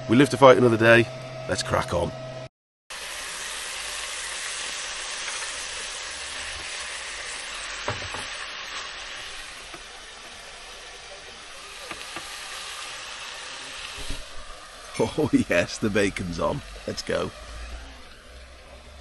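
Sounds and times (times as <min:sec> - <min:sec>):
bacon sizzling in a frying pan: 0:02.9 - 0:19.0.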